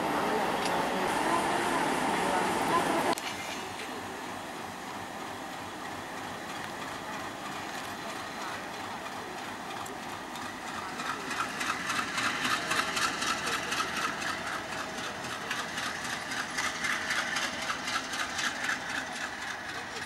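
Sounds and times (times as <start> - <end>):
diesel locomotive engine running: 0.0 - 20.0.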